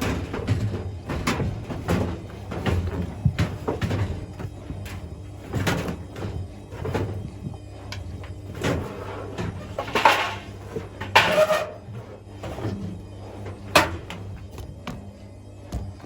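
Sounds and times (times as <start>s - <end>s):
clunks and knocks on machine panels: 0.0s - 15.0s
low steady hum: 0.0s - 16.0s.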